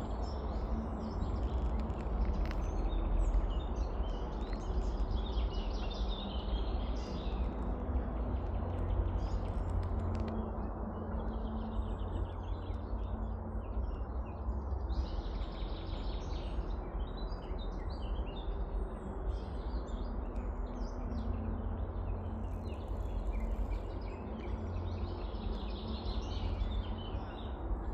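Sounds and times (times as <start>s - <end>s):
songbirds chirping: 0.0s - 27.9s
steady low rumble: 0.0s - 27.9s.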